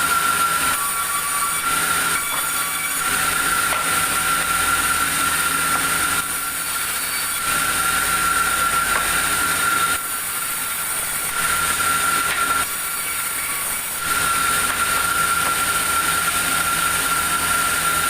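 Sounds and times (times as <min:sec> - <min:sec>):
sawmill saw whining: 0:00.0 - 0:18.0.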